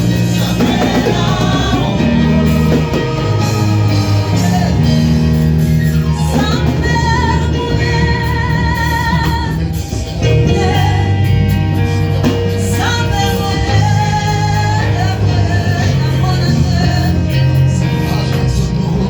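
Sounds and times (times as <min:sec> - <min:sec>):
band playing: 0:00.0 - 0:19.0
people singing: 0:00.0 - 0:19.0
steady bass line: 0:00.0 - 0:19.0.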